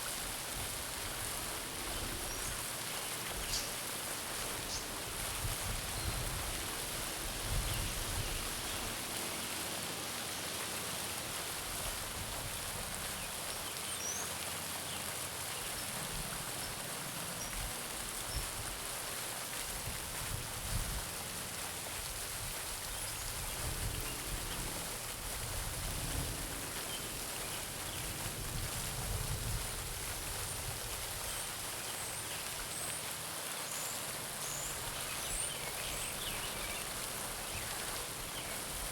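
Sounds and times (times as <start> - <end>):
fountain splashing into water: 0.0 - 38.9.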